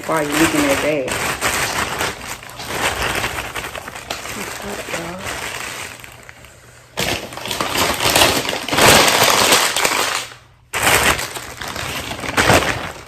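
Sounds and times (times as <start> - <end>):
bag crackling and crunching: 0.0 - 13.0.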